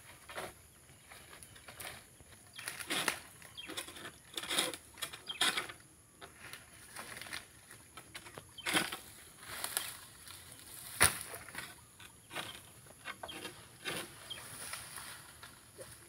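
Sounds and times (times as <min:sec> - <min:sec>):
palm fronds rustling and scraping: 0:00.0 - 0:16.0.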